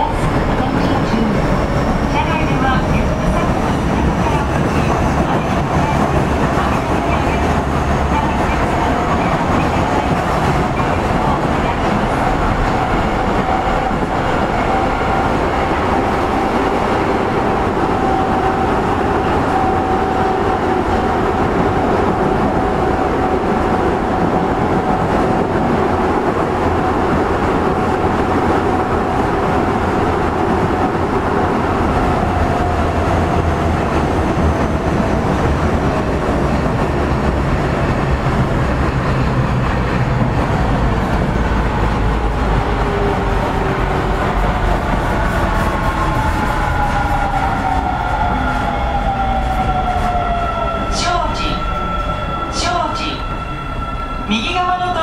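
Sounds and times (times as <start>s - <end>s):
wheels rumbling on rail: 0.0s - 54.3s.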